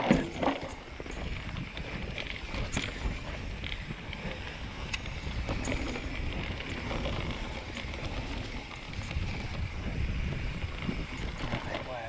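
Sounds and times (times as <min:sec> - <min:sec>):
bike ticks and rattles: 0:00.0 - 0:12.0
tyres on dirt: 0:00.0 - 0:12.0
wind buffeting microphone: 0:00.0 - 0:12.0.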